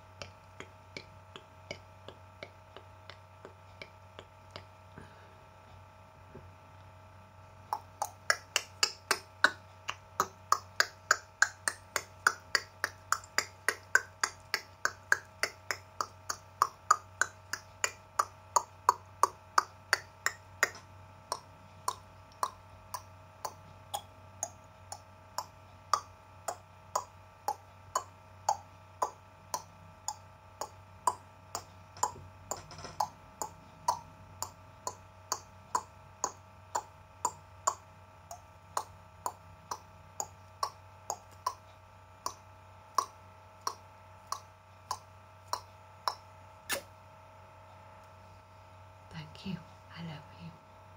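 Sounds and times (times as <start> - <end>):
tongue clicks: 0.1 - 4.8, 7.7 - 47.0.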